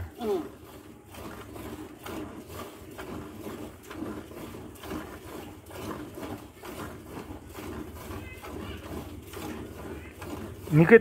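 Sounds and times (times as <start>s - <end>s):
milk squirting into plastic bucket: 0.0s - 11.0s.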